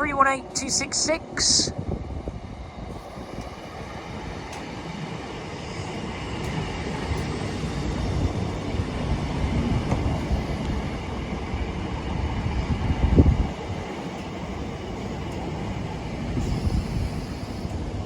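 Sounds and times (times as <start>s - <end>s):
train wheels and traction rumble: 0.0s - 18.0s.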